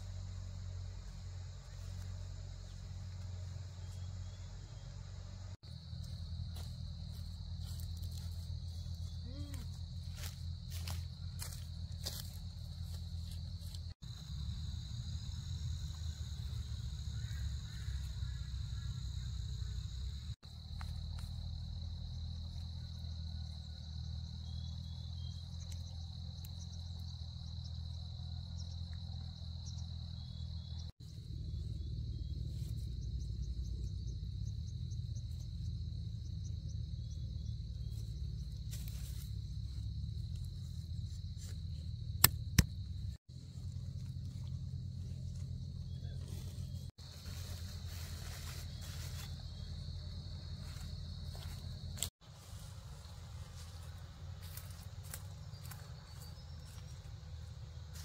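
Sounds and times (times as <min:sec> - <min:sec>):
insects trilling: 0:00.0 - 0:58.0
low steady rumble: 0:00.0 - 0:58.0.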